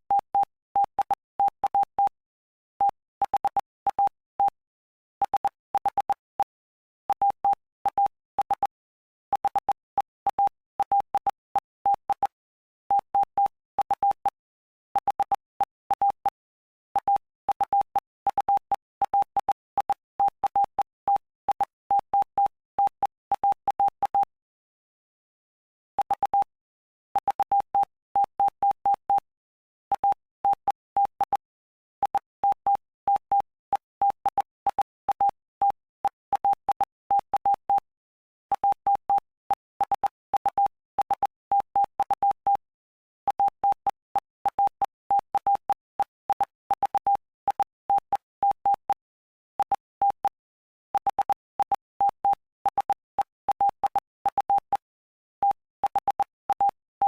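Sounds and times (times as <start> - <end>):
morse code beeps: 5.2 - 6.5, 7.1 - 14.4, 15.0 - 16.4, 17.0 - 24.3, 26.0 - 26.5, 27.2 - 29.3, 29.9 - 37.9, 38.5 - 42.7, 43.3 - 56.8.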